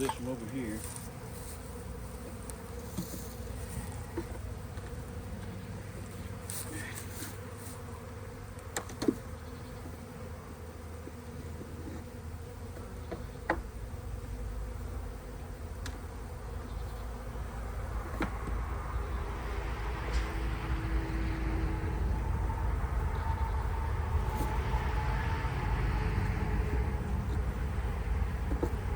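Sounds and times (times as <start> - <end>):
bees buzzing: 0.0 - 28.9.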